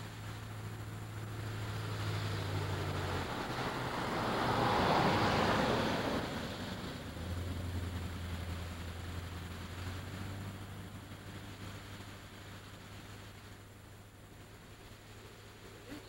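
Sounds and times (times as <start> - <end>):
vehicle passing by: 0.0 - 13.6.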